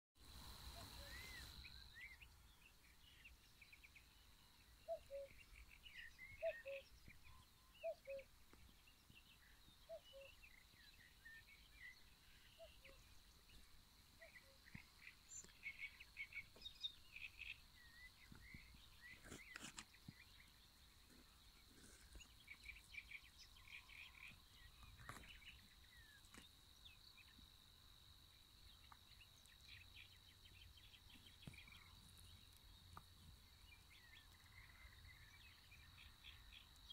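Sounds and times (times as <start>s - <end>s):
lower paired bird calls: 0.3s - 27.5s, 28.6s - 36.9s
songbirds chirping and trilling: 0.3s - 36.9s.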